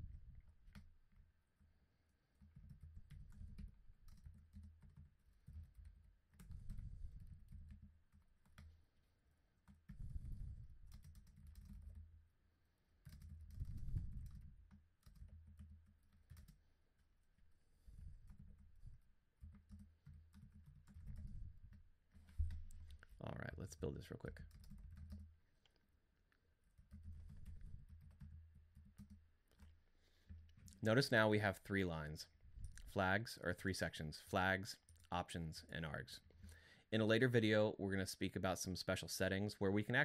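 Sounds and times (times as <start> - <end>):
faint keyboard typing: 0.0 - 40.0.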